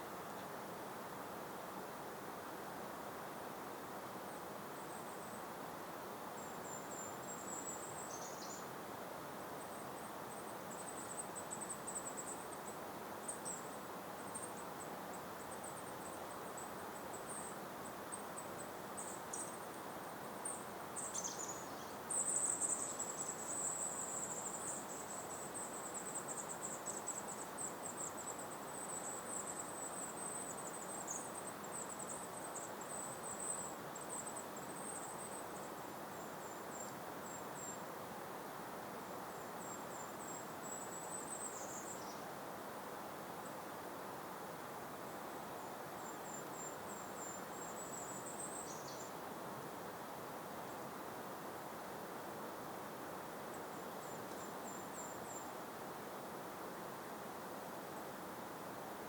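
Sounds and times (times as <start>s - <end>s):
soft breeze hiss: 0.0s - 59.0s.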